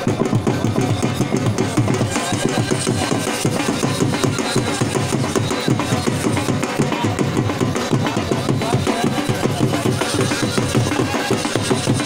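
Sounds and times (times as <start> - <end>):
music with fast drumming: 0.0 - 12.0.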